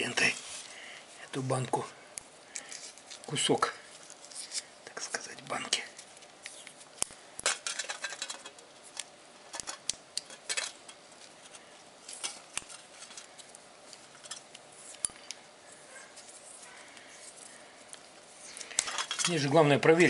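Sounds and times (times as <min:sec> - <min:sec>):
faint metallic rustles: 0:02.5 - 0:20.0.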